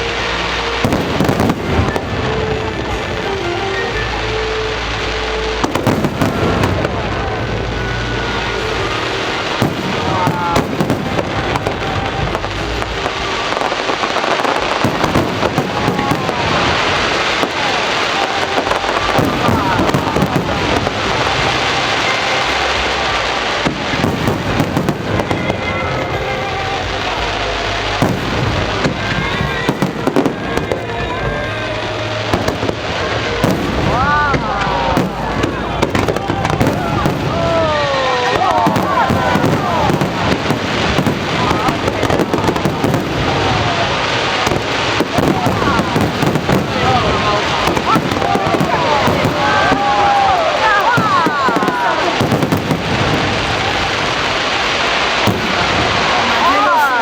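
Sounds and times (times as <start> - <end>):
continuous rumbling: 0.0 - 57.0
fireworks bangs and crackling: 0.0 - 57.0.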